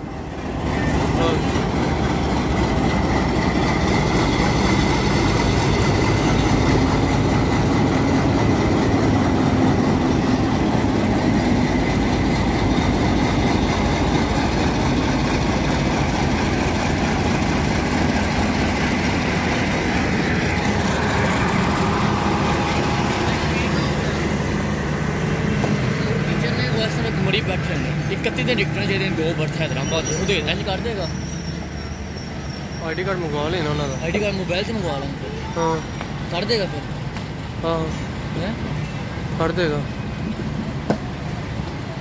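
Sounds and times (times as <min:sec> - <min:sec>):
diesel locomotive engine running: 0:00.0 - 0:42.0.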